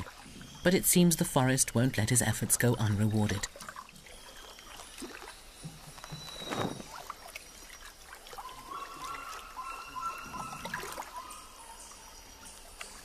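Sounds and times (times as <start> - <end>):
trickling water: 0.0 - 13.0.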